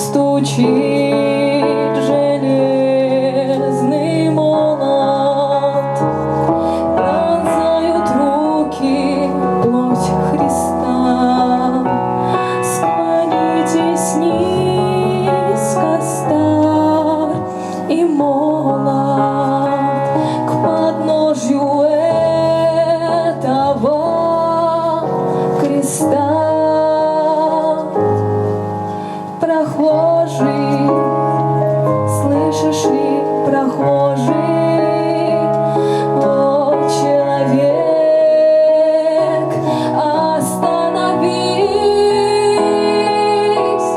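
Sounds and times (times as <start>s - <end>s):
woman singing with vibrato: 0.0s - 28.2s, 29.1s - 43.9s
keyboard accompaniment: 0.0s - 43.9s.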